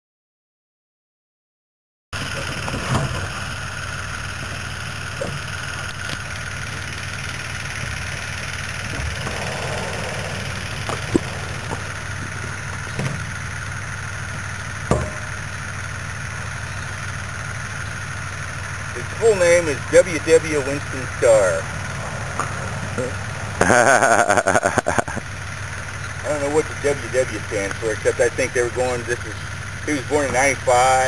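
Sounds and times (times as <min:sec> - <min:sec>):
steady motor hum: 0:02.2 - 0:31.0.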